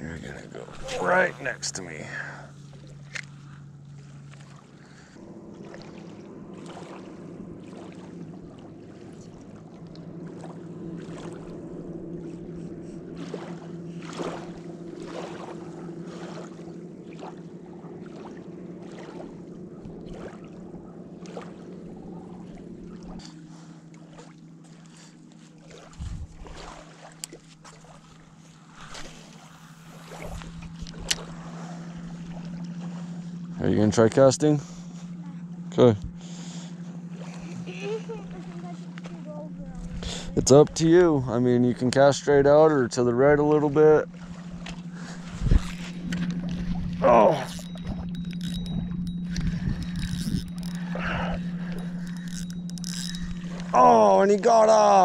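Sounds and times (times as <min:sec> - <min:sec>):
low motor hum: 0:00.0 - 0:55.0.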